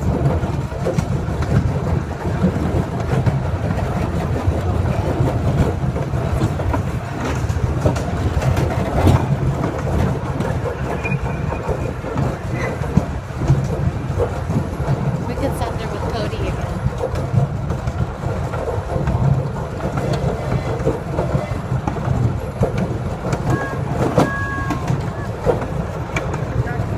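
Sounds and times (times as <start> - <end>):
miniature train rumbling on track: 0.0 - 26.9
wheels clicking over rails: 0.0 - 26.9.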